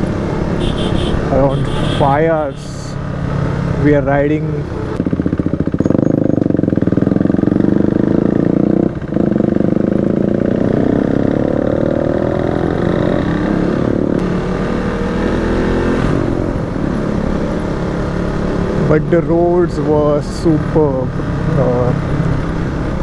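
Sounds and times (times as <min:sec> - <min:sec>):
motorcycle engine accelerating: 0:03.0 - 0:23.0.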